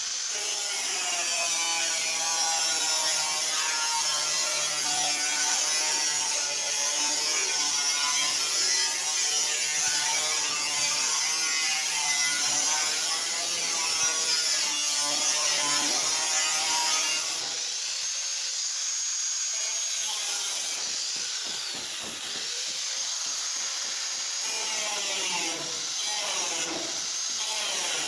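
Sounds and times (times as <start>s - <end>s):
angle grinder cutting metal: 0.0s - 28.0s.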